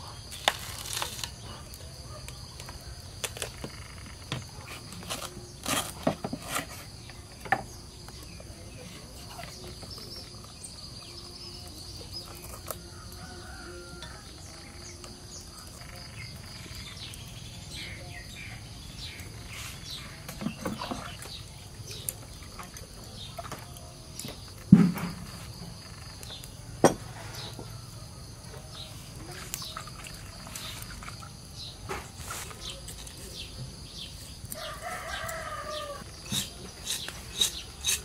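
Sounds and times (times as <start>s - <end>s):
birds calling faintly: 0.0s - 38.0s
insect chorus: 0.0s - 38.0s.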